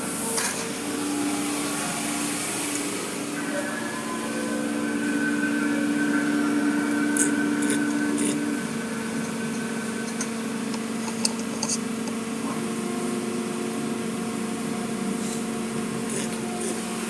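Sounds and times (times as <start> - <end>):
car wash machinery hum: 0.0 - 17.0.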